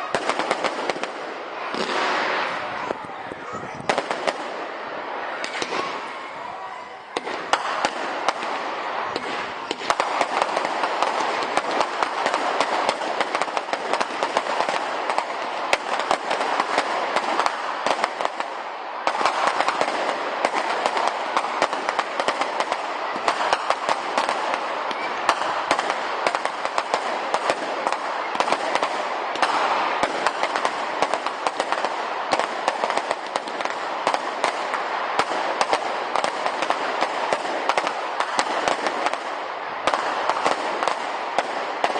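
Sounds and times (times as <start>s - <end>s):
fireworks crackling: 0.0s - 41.9s
loud firework cracks: 0.0s - 41.9s.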